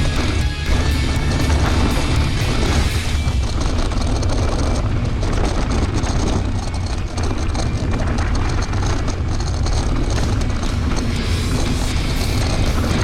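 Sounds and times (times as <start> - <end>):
mountain bike rattling on dirt: 0.1 - 13.0.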